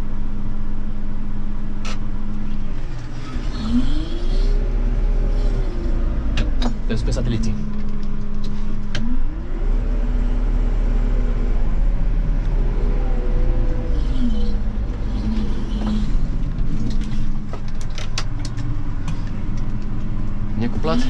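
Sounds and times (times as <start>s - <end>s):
tractor engine revving: 1.8s - 21.0s.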